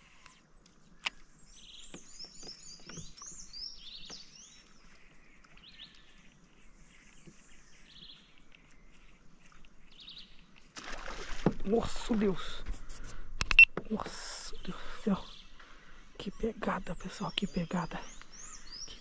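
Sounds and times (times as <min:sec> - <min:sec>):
birds chirping and trilling: 0:00.0 - 0:10.7, 0:13.9 - 0:19.0.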